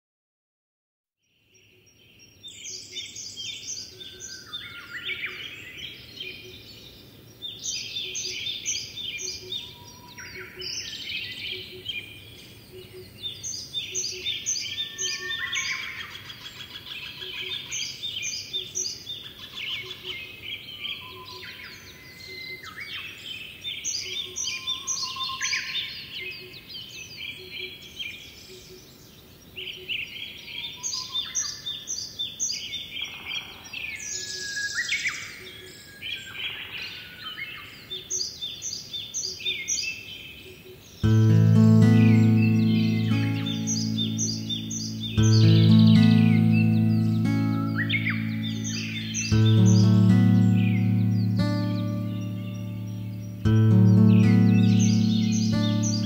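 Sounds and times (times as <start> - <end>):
songbirds singing and chirping: 1.2 - 56.0
faint outdoor background hum: 1.4 - 56.0.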